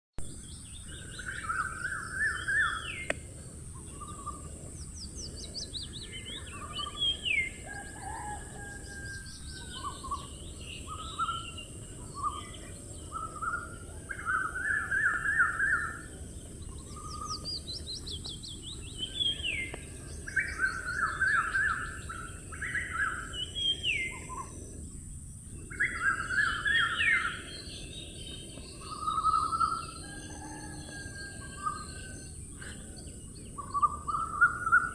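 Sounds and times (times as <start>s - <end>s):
songbirds singing: 0.2s - 34.9s
steady high hiss: 0.4s - 34.9s.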